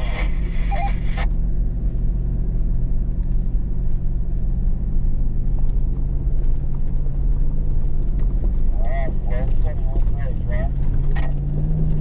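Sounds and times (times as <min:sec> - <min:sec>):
engine drone inside vehicle cabin: 0:00.0 - 0:12.0.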